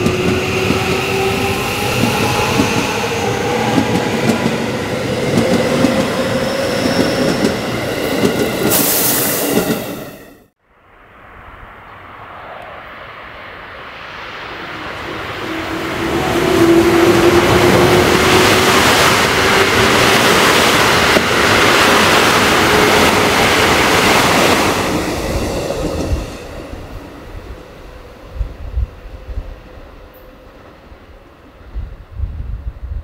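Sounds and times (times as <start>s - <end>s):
train passing rumble: 0.0s - 33.0s.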